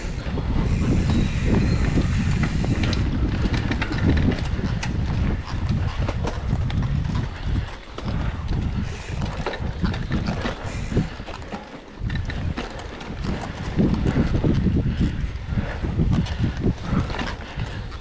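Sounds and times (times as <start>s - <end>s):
bike rattling and knocking: 0.0s - 18.0s
wind buffeting microphone: 0.0s - 18.0s.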